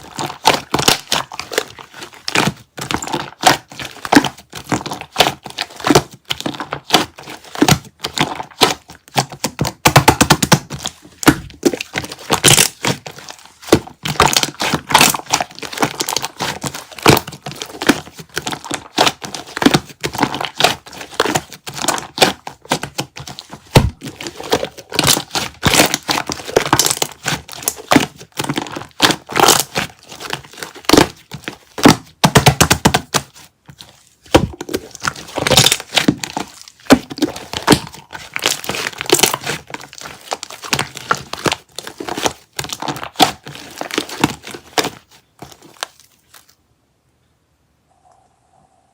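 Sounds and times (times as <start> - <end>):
material being shaved crackling: 0.0 - 46.6.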